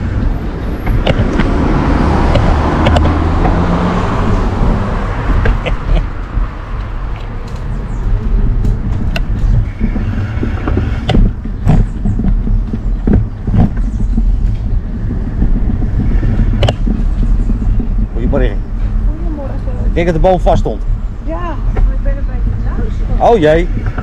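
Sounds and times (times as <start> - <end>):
knocks and rattles over bumps: 0.0 - 24.0
mobility scooter rolling over paving: 0.2 - 20.0.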